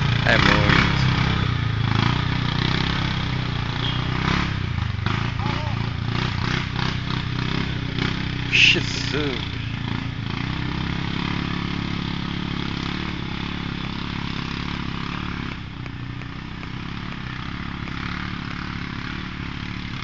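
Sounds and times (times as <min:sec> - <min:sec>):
quad bike engine idling: 0:00.0 - 0:20.0.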